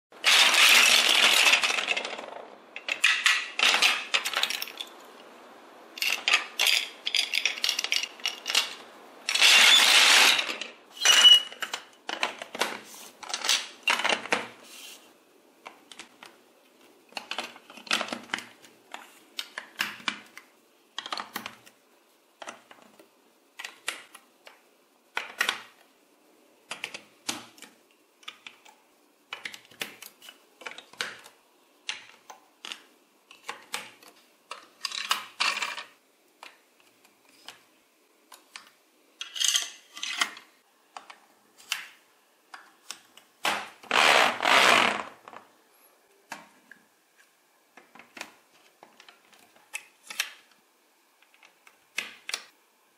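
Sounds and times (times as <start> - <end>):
plastic building blocks clicking: 0.2 - 5.1, 6.0 - 14.6, 15.6 - 16.4, 17.1 - 21.8, 22.4 - 25.9, 26.6 - 37.7, 38.3 - 45.4, 47.7 - 50.6, 51.2 - 52.6.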